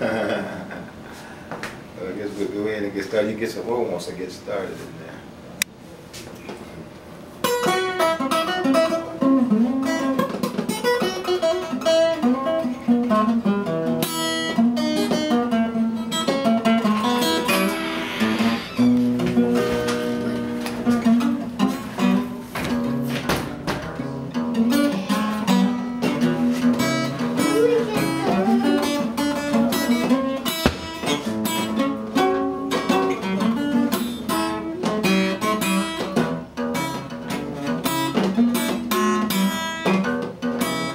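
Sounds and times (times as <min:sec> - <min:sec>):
acoustic guitar blues: 0:07.4 - 0:40.9.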